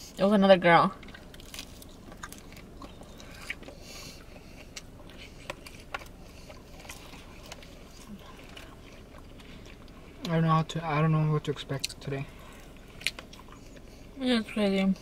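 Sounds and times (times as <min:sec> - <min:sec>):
soft chewing: 0:00.9 - 0:10.8, 0:11.4 - 0:14.2.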